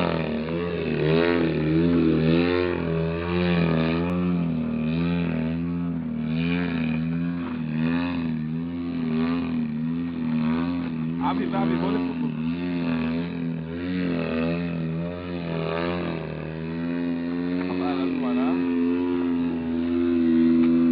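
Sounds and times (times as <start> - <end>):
model plane engine rising and falling: 0.0 - 20.9.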